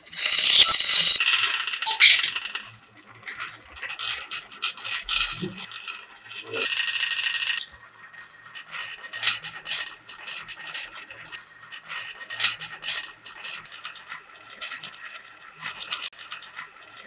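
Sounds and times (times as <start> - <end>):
marbles rolling on wooden track: 0.0 - 17.0.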